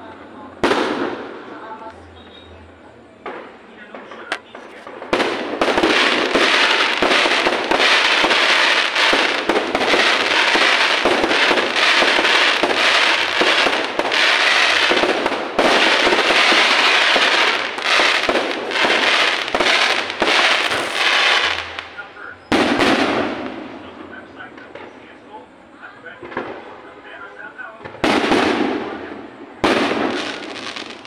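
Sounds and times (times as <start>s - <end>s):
fireworks crackling and popping: 0.0s - 25.2s, 26.1s - 26.8s, 27.8s - 31.0s.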